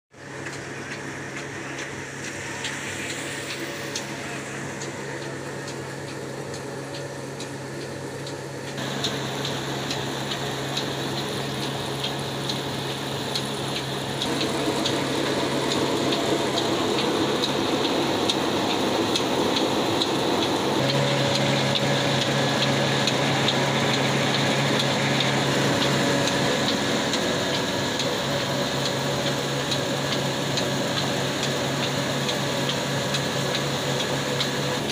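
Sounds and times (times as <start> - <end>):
belt-driven machinery noise: 0.1 - 34.9
diesel engine running: 0.2 - 34.9.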